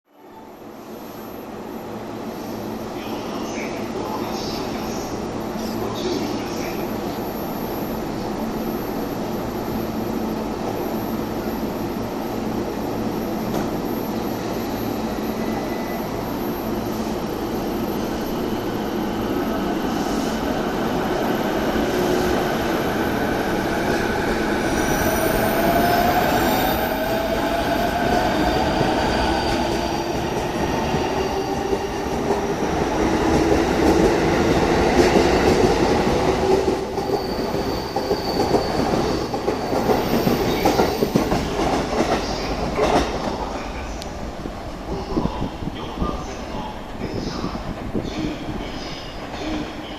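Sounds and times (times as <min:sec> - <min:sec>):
train wheels squealing on rails: 0:02.3 - 0:33.4, 0:34.0 - 0:44.0, 0:46.2 - 0:49.9.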